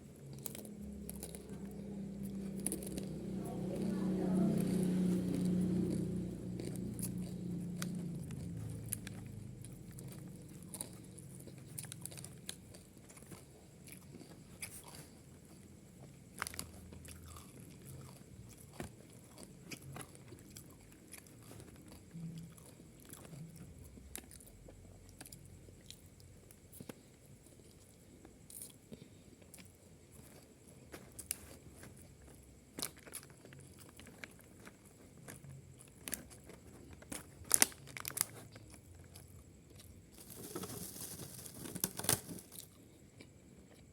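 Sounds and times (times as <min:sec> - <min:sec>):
person chewing food: 0:00.0 - 0:03.9, 0:04.5 - 0:43.9.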